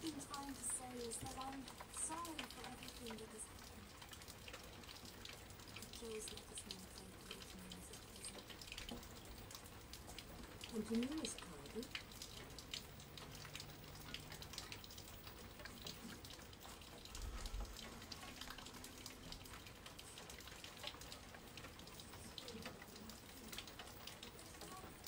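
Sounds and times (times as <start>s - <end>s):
rain pattering and dripping: 0.0s - 25.0s.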